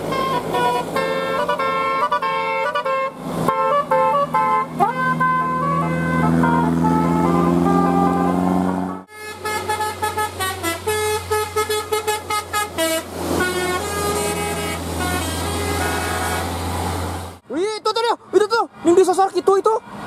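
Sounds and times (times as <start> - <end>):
musical air horn tune: 0.0 - 16.6
bus engine drone: 0.0 - 20.0.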